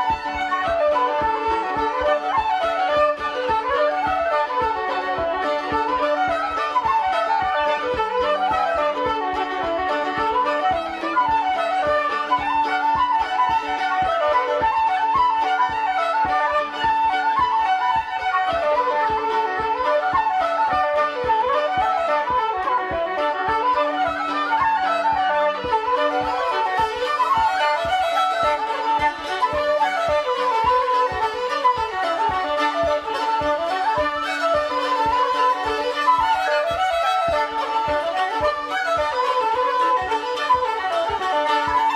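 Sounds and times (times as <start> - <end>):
flutes and fiddles playing dance tune: 0.0 - 41.9.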